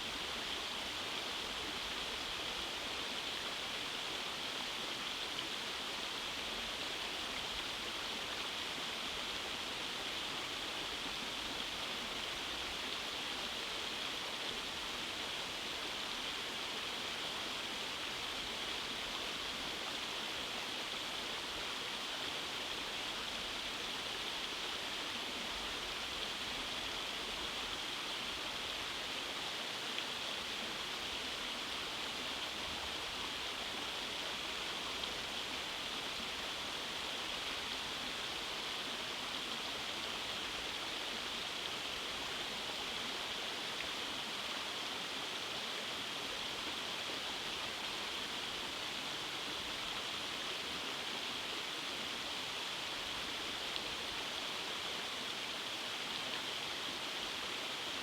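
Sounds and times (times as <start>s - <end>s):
stream rushing over cascades: 0.0s - 58.0s.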